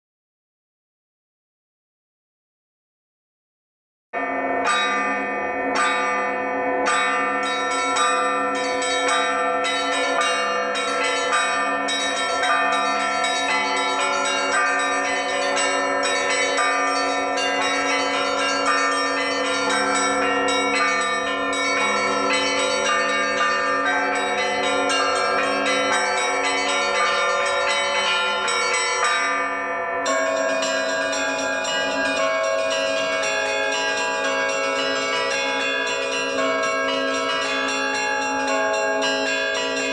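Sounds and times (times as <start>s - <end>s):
deep bells tolling: 4.2s - 39.9s
small bells chiming: 4.2s - 39.9s.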